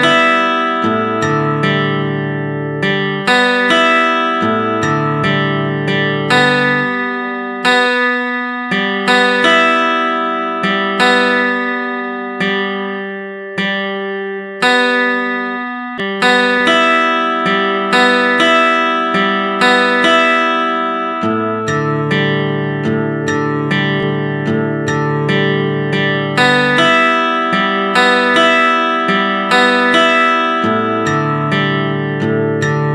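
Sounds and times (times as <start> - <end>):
plucked acoustic guitar: 0.0 - 32.9.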